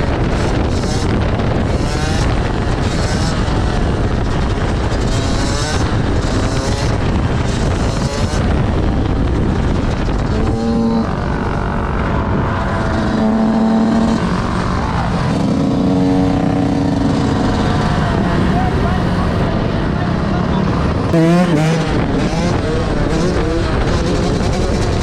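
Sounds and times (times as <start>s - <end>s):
vehicle engines running: 0.0s - 25.0s.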